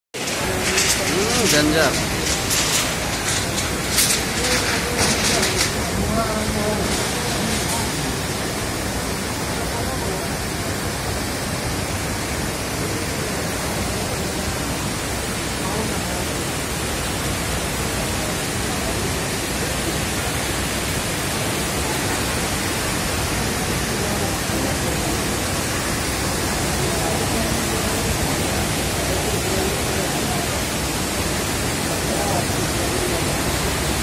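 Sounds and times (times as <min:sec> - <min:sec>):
heavy rain pouring: 0:00.2 - 0:34.0.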